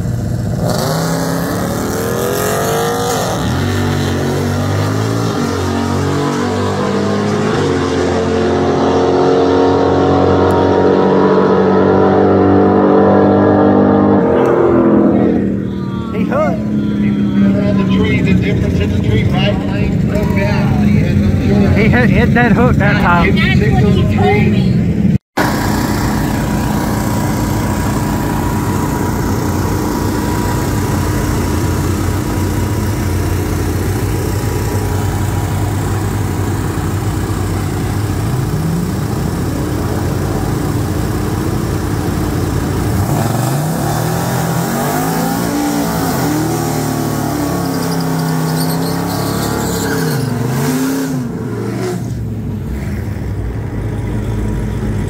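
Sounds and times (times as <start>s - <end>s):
other engines: 0.0s - 55.0s
vee eight engine revving: 0.0s - 55.0s.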